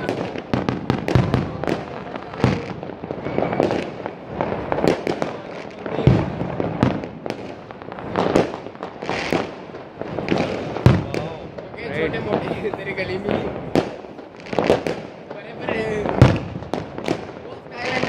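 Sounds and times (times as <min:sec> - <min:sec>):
fireworks bangs and crackles: 0:00.0 - 0:18.0
loud fireworks booms: 0:00.0 - 0:18.0.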